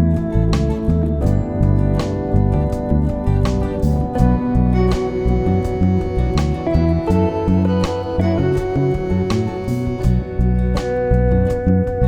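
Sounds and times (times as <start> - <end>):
plucked guitar music with beat: 0.0 - 12.0.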